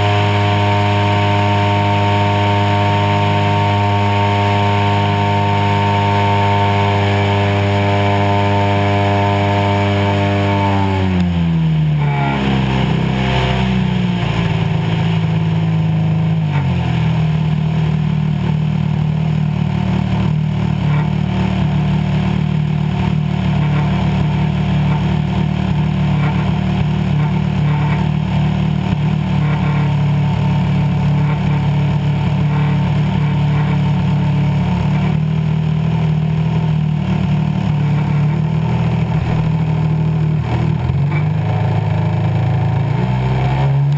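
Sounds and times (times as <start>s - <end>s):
model plane engine running: 0.0s - 43.9s.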